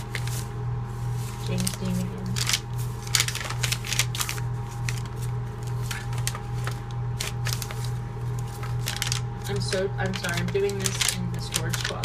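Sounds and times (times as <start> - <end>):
paper pages rustling: 0.0 - 12.0
steady low hum: 0.0 - 12.0.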